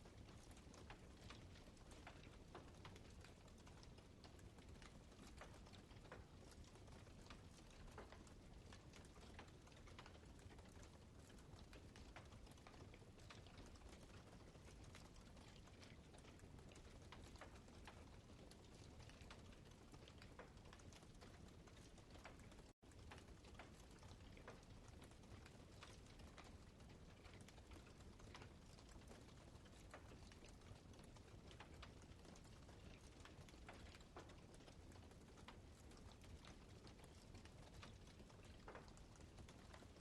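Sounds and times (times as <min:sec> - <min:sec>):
soft steady hiss: 0:00.0 - 0:40.0.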